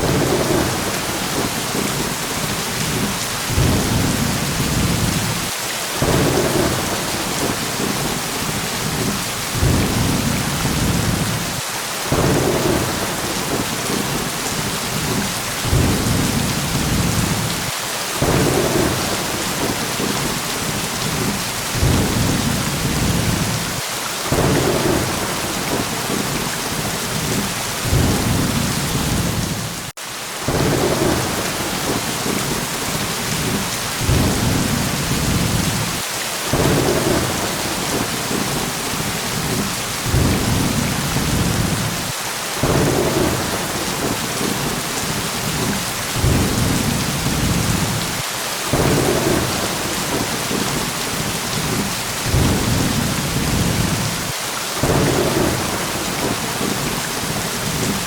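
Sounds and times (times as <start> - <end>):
low thunder rumbles: 0.0 - 29.9, 30.5 - 58.0
heavy rain: 0.0 - 58.0.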